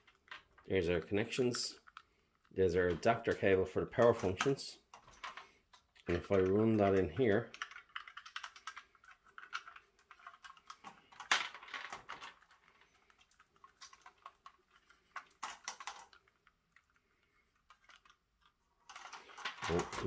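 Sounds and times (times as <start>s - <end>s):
plastic bricks clicking and rattling: 0.0s - 0.7s, 4.0s - 20.0s.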